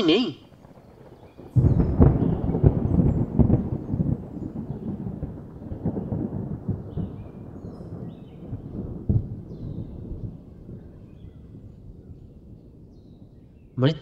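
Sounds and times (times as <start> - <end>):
thunder crack and rumble: 0.0 - 14.0.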